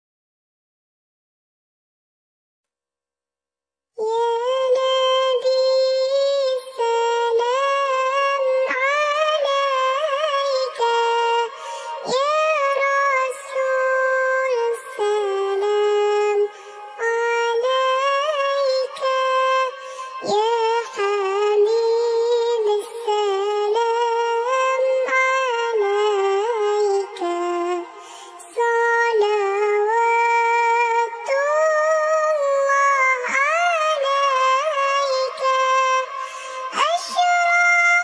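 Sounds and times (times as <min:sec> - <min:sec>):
processed high-pitched singing voice: 0:04.0 - 0:38.0.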